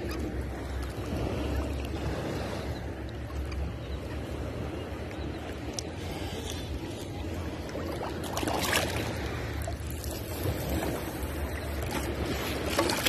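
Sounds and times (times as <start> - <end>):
sea water sloshing and splashing: 0.0 - 13.0.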